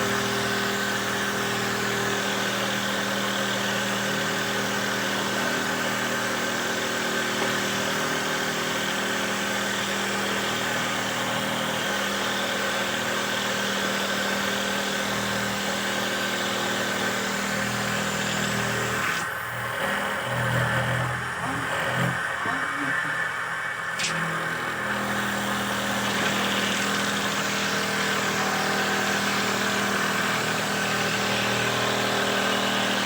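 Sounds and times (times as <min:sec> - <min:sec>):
machine motor humming: 0:00.0 - 0:33.0.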